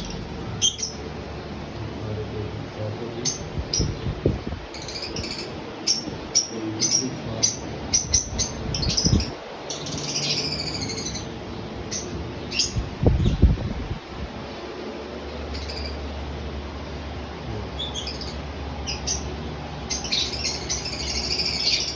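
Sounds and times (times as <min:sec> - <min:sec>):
small birds chirping: 0:00.0 - 0:13.7, 0:15.3 - 0:16.3, 0:17.4 - 0:21.9.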